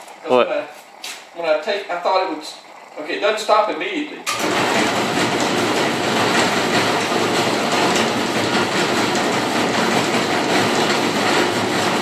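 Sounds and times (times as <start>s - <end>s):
garage door opener motor rattling: 1.0s - 12.0s.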